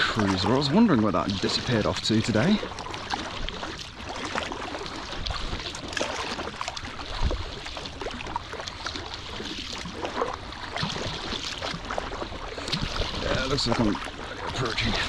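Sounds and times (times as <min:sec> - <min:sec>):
paddle splashing in water: 0:00.0 - 0:15.0
water dripping and lapping: 0:00.0 - 0:15.0.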